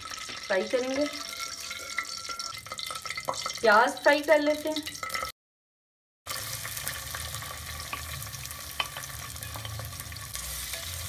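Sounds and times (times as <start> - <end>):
onions sizzling in hot oil: 0.0 - 5.3, 6.3 - 11.0.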